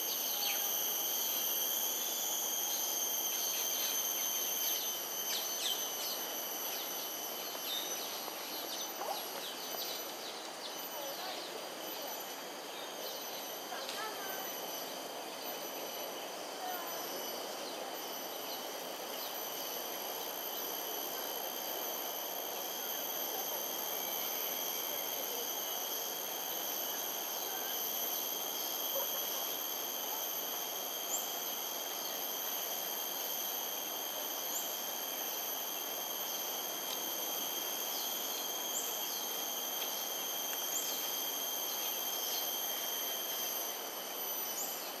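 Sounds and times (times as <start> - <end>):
insects trilling: 0.0 - 45.0.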